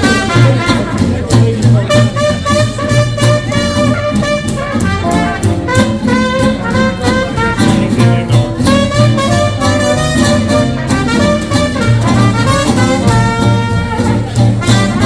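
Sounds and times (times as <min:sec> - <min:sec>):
hot jazz band playing swing: 0:00.0 - 0:15.0.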